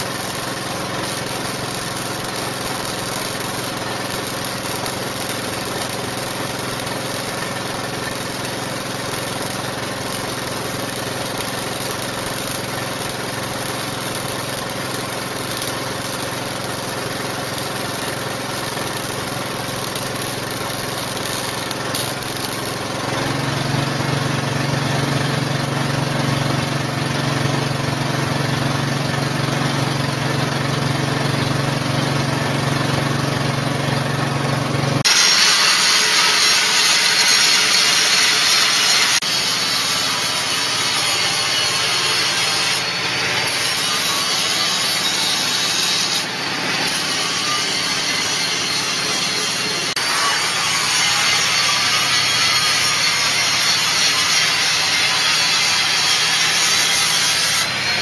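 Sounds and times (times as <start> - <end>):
welding arc crackling hiss: 0.0 - 24.4, 35.0 - 58.0
welding machine drone: 0.0 - 58.0.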